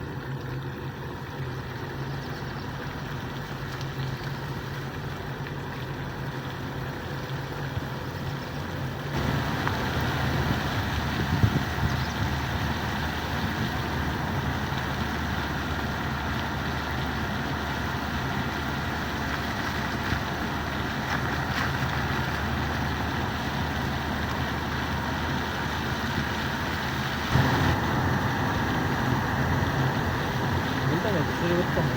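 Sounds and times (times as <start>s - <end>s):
engine rumbling: 0.0s - 31.9s.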